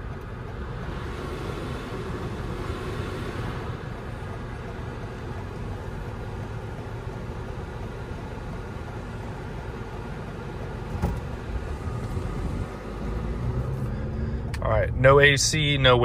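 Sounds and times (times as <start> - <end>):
road and tire hum in car: 0.0 - 16.0.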